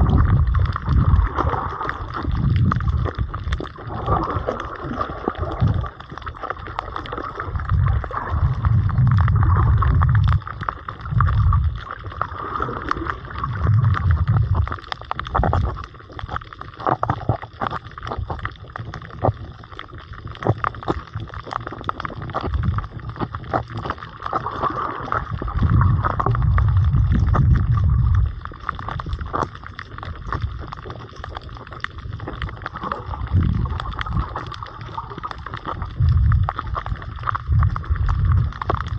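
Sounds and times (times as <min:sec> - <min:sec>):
low water surges: 0:00.0 - 0:15.9, 0:16.9 - 0:38.9
clicks and crackles: 0:00.0 - 0:38.9
muffled underwater noise: 0:00.0 - 0:38.9.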